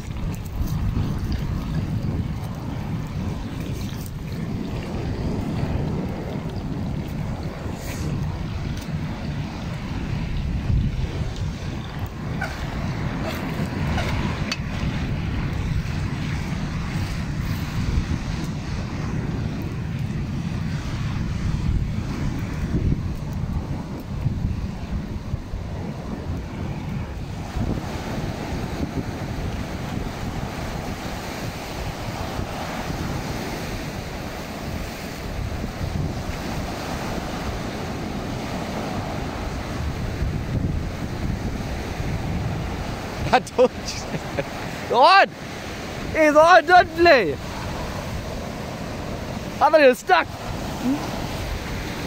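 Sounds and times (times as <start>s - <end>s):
surf washing: 0.0s - 52.0s
wind across microphone: 0.0s - 52.0s.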